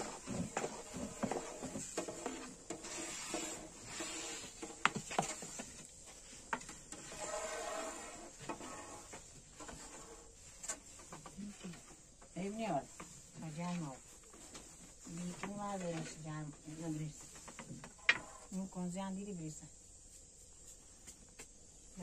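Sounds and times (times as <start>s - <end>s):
rolling pin on wooden board: 0.0s - 18.3s.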